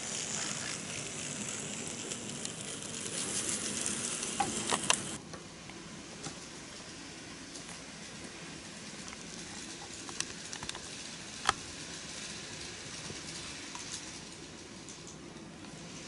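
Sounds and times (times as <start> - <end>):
model train rumbling: 0.0 - 5.2, 5.8 - 16.0
train wheels clicking over joints: 0.0 - 5.2, 7.5 - 16.0.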